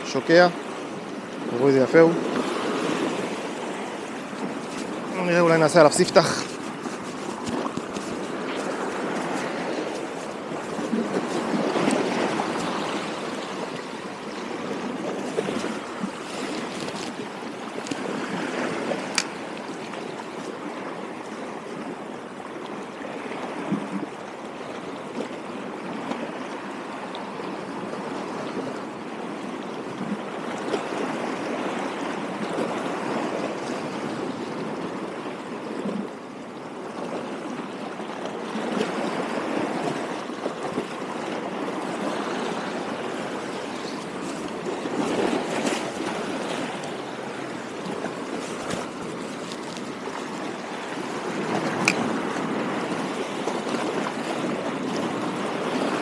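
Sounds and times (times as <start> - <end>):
water lapping against rocks: 0.0 - 36.1, 36.8 - 56.0.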